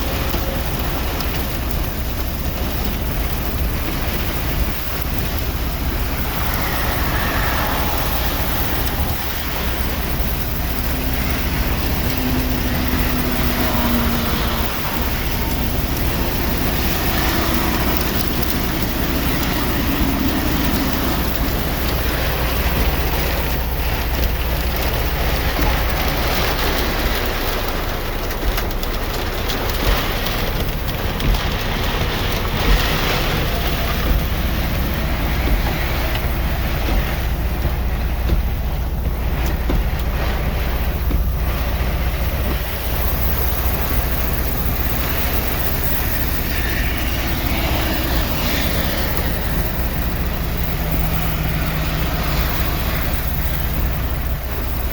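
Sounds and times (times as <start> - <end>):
heavy rain: 0.0 - 54.9
low rumble: 0.0 - 54.9
wind: 0.0 - 54.9.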